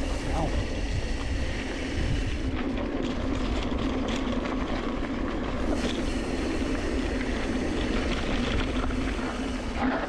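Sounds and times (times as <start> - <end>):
knobby tyres rolling on dirt: 0.0 - 10.0
wind rushing over camera: 0.0 - 10.0
bike clicks and rattles: 0.7 - 10.0.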